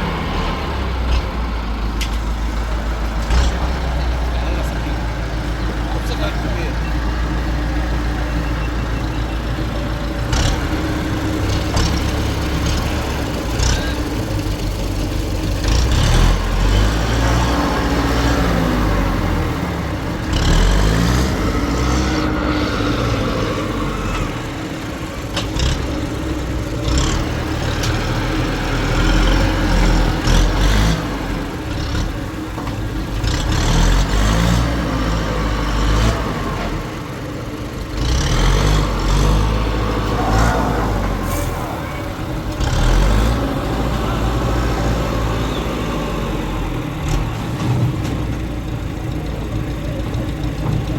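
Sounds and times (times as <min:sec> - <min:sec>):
heavy engine running: 0:00.0 - 0:50.9.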